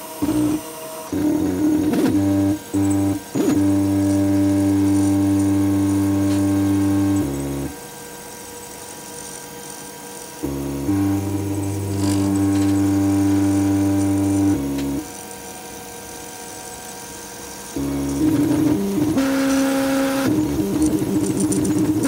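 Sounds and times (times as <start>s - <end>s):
stepper motors whining: 0.0s - 22.0s.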